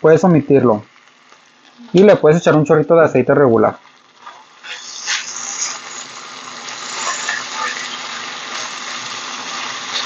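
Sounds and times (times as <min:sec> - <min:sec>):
bacon sizzling in a wok: 0:00.0 - 0:10.0.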